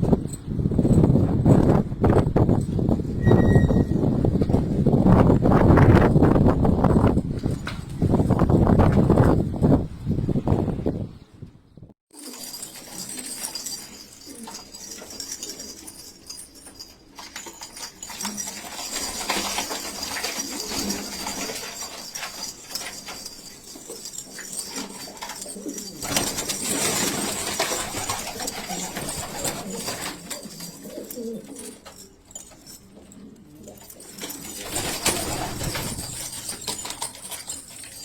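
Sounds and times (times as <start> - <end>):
rustling noise: 4.0 - 38.0.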